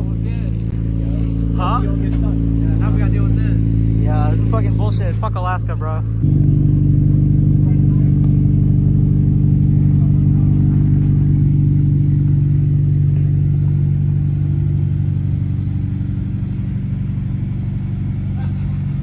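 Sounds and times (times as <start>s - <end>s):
car engine running steadily: 0.0s - 19.0s.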